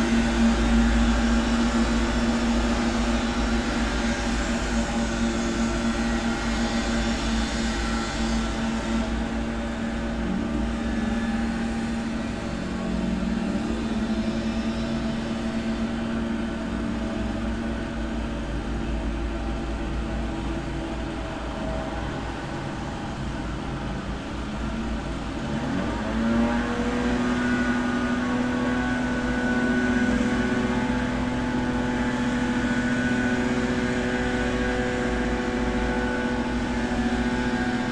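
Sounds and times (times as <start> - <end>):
muffled garden machine engine: 0.0 - 37.9.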